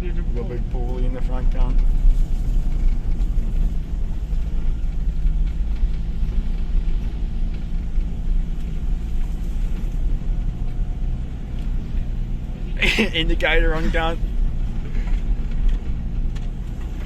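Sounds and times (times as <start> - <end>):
engine drone: 0.0 - 17.0
low road rumble: 0.0 - 17.0.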